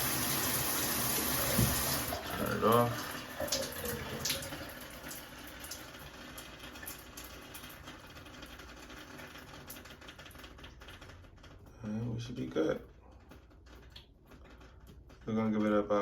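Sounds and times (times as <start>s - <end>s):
shower water flowing: 0.0s - 15.1s.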